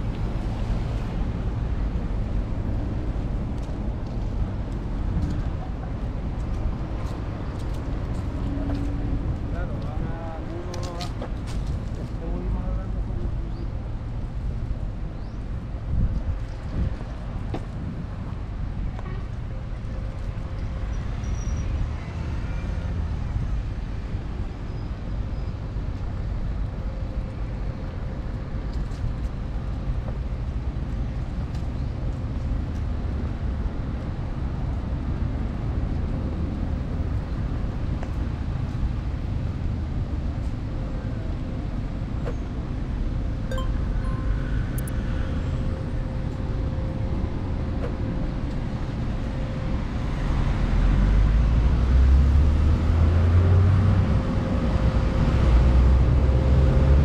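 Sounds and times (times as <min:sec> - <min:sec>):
city road traffic rumble: 0:00.0 - 0:57.0.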